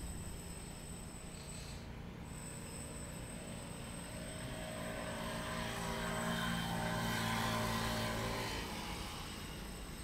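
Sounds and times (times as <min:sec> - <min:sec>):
distant engine hum: 0:00.0 - 0:10.0.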